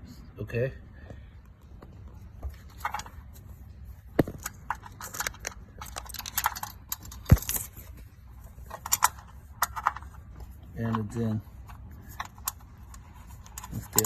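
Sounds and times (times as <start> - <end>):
hands handling small parts: 2.1 - 14.0.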